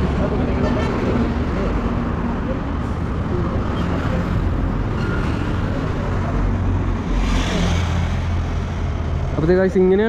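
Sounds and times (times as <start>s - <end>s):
traffic engines humming: 0.0s - 10.0s
vehicle passing: 0.0s - 10.0s.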